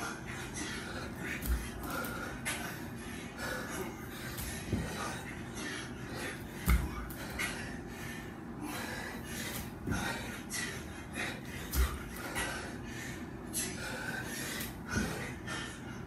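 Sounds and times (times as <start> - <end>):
person breathing hard: 0.0 - 16.0.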